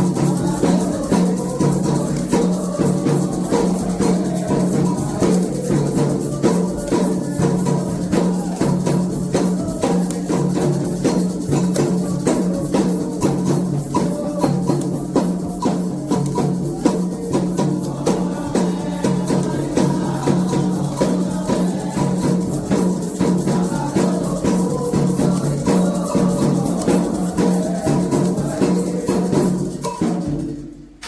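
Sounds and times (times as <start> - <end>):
hand drums playing fast rhythm: 0.0 - 31.0
shaker rattles: 0.0 - 31.0.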